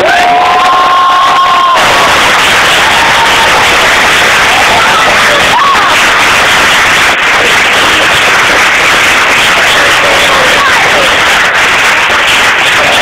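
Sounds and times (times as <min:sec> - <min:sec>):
audience cheering and applauding: 0:00.0 - 0:13.0.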